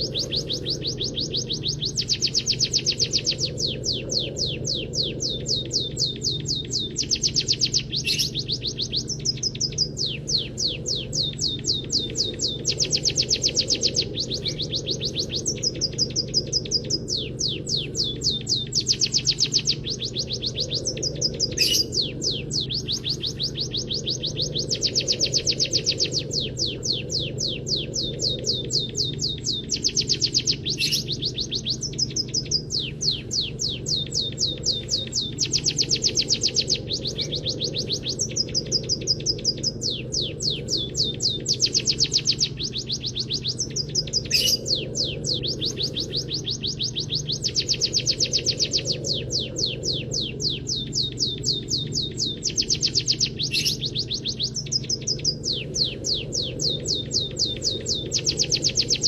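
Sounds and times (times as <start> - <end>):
bird singing fast trills: 0.0 - 59.0
steady low hum: 0.0 - 59.0.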